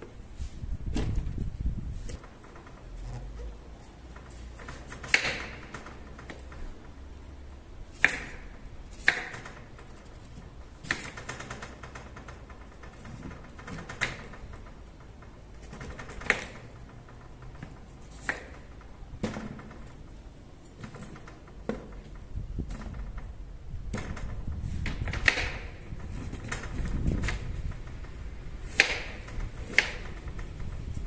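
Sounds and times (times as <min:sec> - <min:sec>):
sharp clicks and knocks of hard objects: 0:02.1 - 0:31.0.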